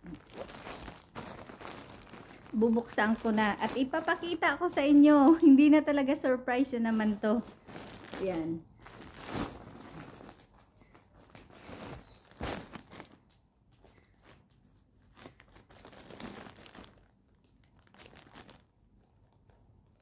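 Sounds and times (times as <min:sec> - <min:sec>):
loud plastic crackle: 0:00.0 - 0:05.6, 0:06.7 - 0:20.0
plastic bag crinkling: 0:00.0 - 0:20.0.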